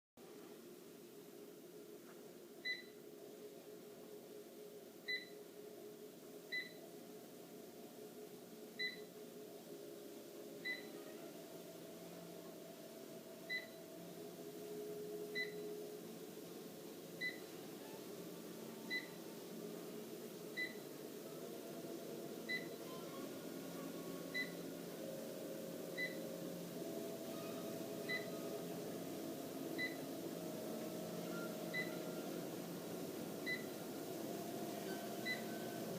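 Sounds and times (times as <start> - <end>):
treadmill motor and belt humming: 0.2 - 35.9.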